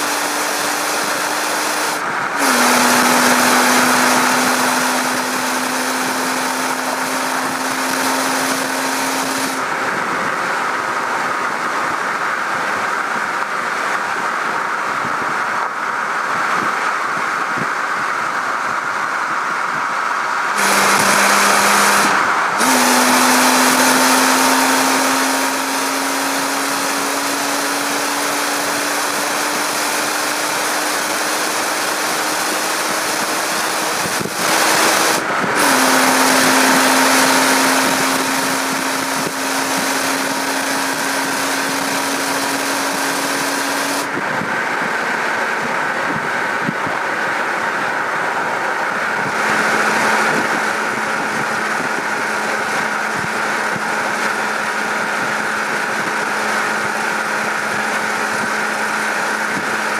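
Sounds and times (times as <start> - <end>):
car engine at motorway speed: 0.0 - 59.9
wind and tyre noise: 0.0 - 59.9.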